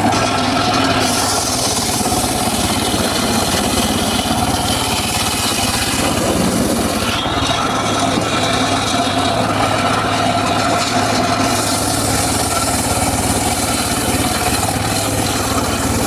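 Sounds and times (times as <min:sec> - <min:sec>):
circular saw cutting wood: 0:00.0 - 0:16.0
steady machine drone: 0:00.0 - 0:16.0.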